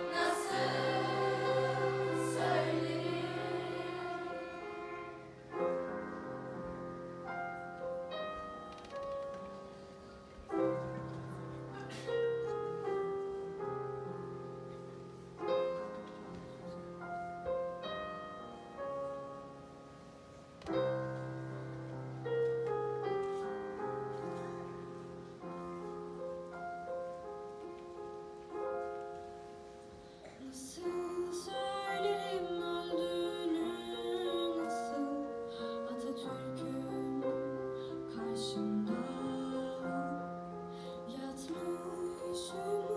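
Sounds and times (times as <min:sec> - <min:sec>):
slow piano chords: 0:00.0 - 0:42.9.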